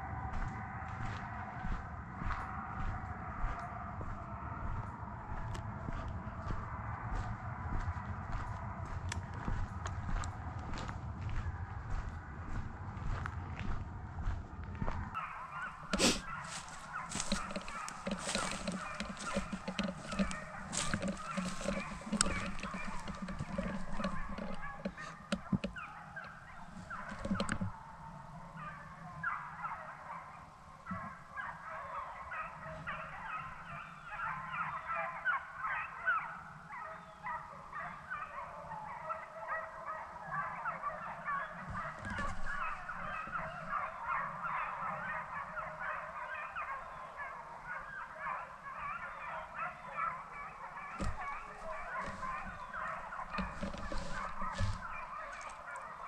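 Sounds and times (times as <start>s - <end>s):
hounds baying: 0.0s - 56.0s.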